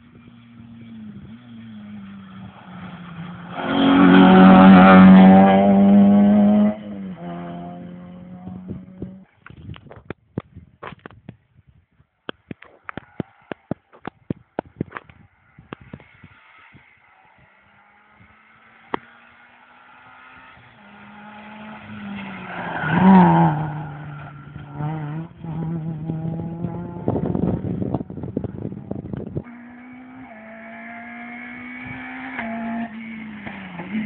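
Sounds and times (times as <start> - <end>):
rally car engine passing: 0.0 - 9.3, 15.3 - 34.0
rally car engine approaching: 0.0 - 9.4, 15.1 - 34.0.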